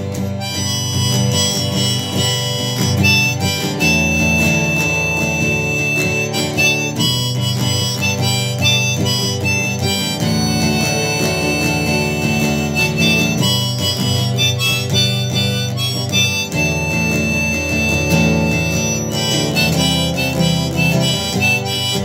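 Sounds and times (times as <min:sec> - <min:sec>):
harmonica: 0:00.0 - 0:22.0
strummed acoustic guitar: 0:00.0 - 0:22.0.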